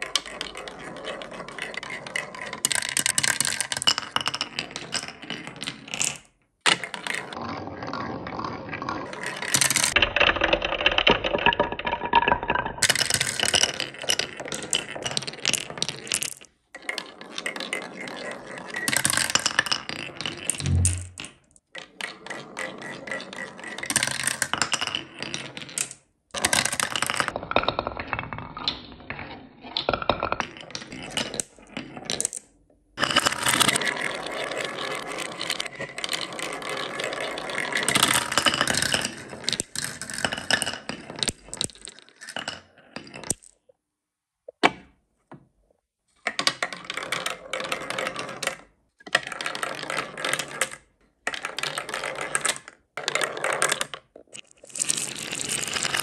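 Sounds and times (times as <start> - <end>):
marbles rattling down wooden track: 0.0 - 28.8, 29.9 - 43.6, 46.4 - 56.0.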